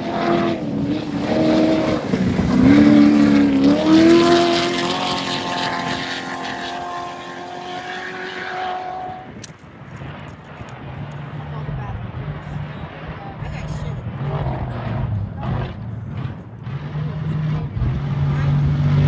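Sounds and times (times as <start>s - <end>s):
race vehicle engine at high revs: 0.0s - 19.0s.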